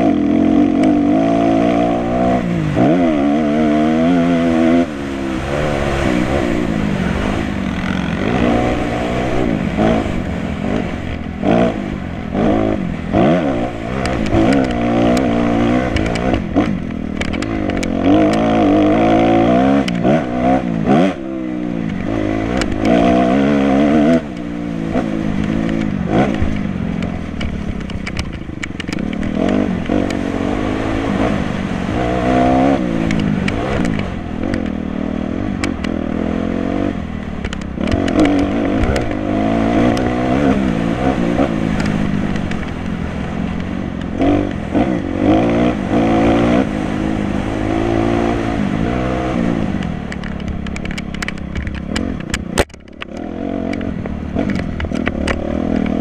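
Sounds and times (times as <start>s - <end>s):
dirt bike engine revving: 0.0s - 56.0s
knocks and clatter over rough ground: 0.0s - 56.0s.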